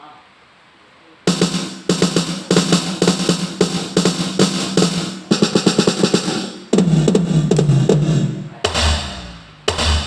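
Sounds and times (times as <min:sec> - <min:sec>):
fast electronic drum pattern: 0:01.3 - 0:10.0
low steady bass tone: 0:01.3 - 0:10.0.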